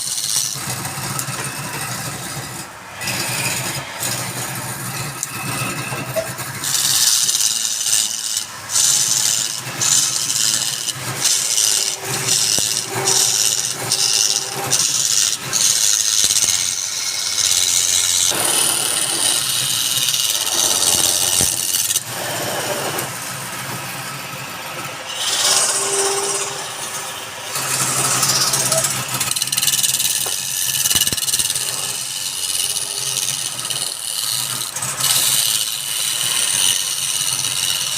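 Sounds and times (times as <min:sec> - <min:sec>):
tool scraping spinning wood: 0:00.0 - 0:37.9
wood lathe motor hum: 0:00.0 - 0:37.9.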